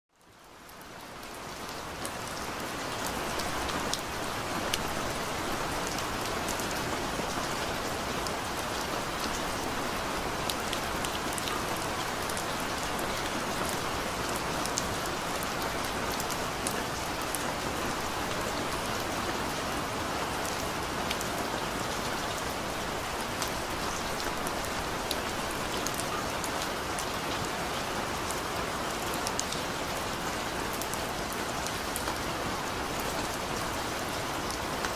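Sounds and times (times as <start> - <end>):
rain falling: 0.1 - 34.9
raindrops striking close by: 0.1 - 34.9.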